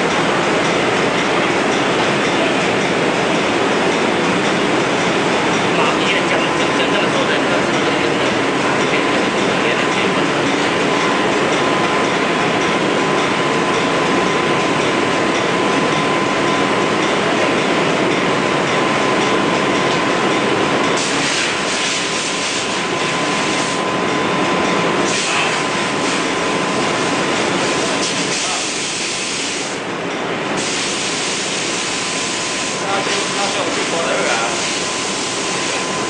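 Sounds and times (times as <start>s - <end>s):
thin steady whine: 0.0s - 36.0s.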